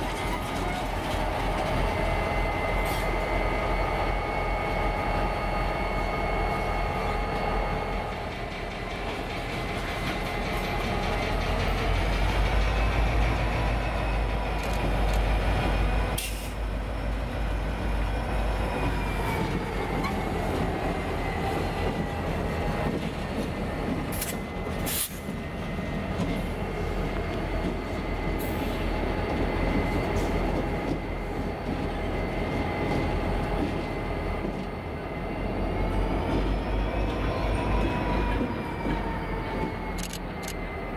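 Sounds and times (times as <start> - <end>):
diesel locomotives rumbling: 0.0 - 40.9.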